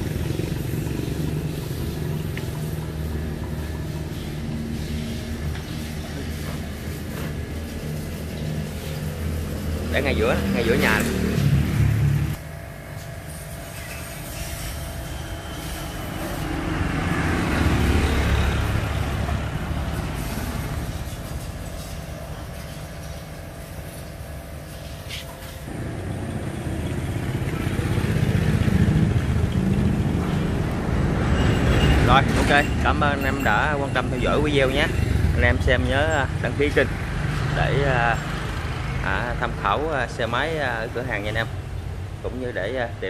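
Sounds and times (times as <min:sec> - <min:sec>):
passing traffic engine noise: 0:00.0 - 0:43.0.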